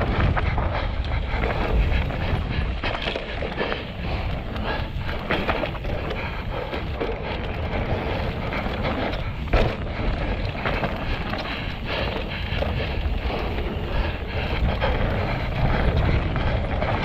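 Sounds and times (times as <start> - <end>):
mountain bike rattling over rocks: 0.0 - 17.0
tyres on rock: 0.0 - 17.0
wind on microphone: 0.0 - 17.0.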